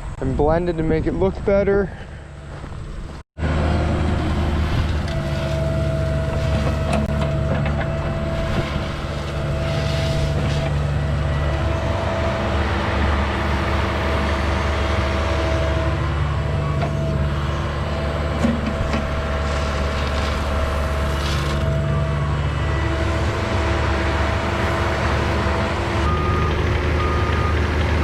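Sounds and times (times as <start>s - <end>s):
diesel engine running: 2.0s - 28.0s.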